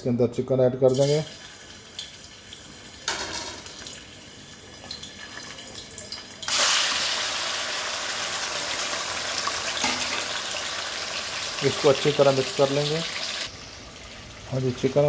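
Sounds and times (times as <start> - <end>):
light crackle of frying: 0.9 - 15.0
chicken sizzling in hot oil: 1.0 - 15.0.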